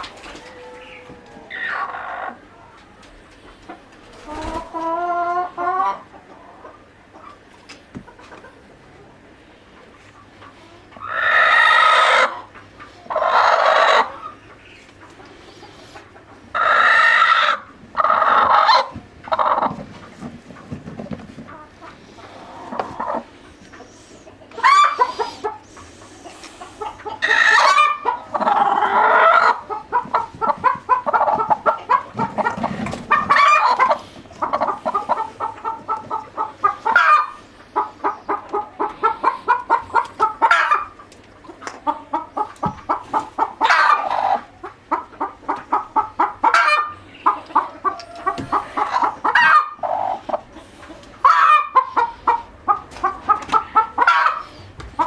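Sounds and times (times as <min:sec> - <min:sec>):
chickens clucking: 0:00.0 - 0:55.0
chicken squawking calls: 0:00.2 - 0:03.1, 0:10.6 - 0:19.8, 0:21.5 - 0:41.0, 0:41.9 - 0:55.0.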